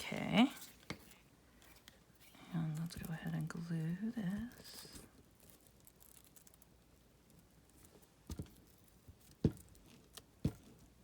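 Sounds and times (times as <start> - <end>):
quiet paper handling: 0.0 - 11.0.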